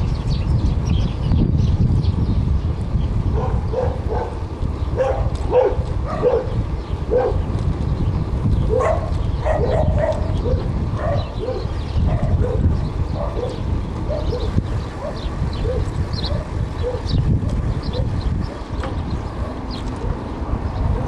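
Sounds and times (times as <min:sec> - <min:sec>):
vehicle road and wind noise: 0:00.0 - 0:21.0.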